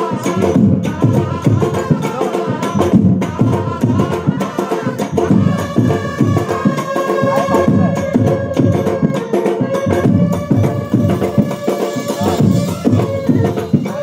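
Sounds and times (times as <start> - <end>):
drums beating steady rhythm: 0.0 - 14.0
horns holding long notes: 0.0 - 14.0.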